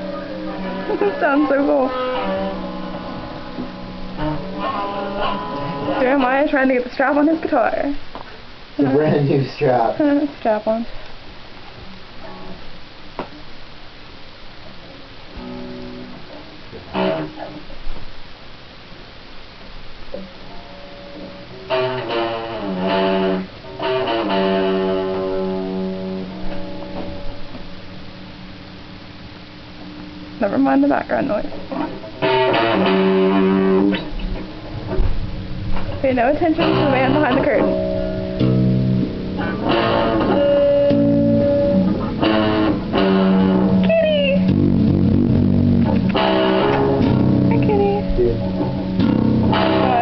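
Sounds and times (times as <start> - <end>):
plucked guitar notes: 0.0 - 7.9, 12.2 - 12.8, 14.7 - 17.8, 20.1 - 28.7, 29.8 - 50.0
electric guitar chords: 0.0 - 50.0.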